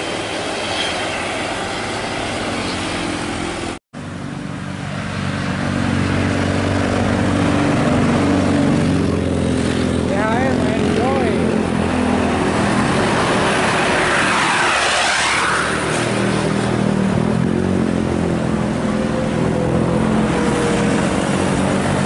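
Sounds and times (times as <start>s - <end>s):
bus driving past: 0.0s - 22.0s.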